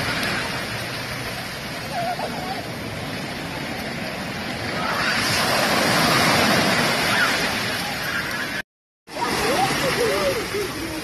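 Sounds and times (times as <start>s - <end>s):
waves washing up a beach: 0.0s - 11.0s.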